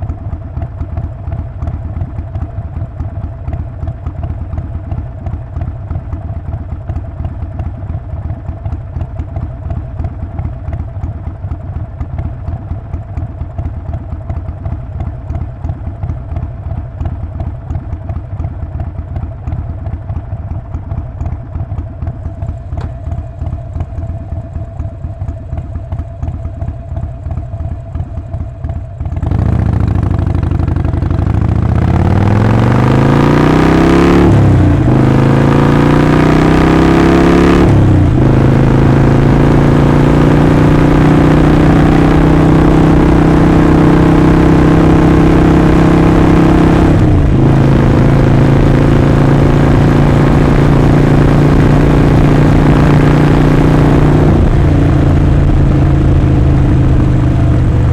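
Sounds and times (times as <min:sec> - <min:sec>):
motorcycle engine idling and accelerating: 0:00.0 - 0:57.9.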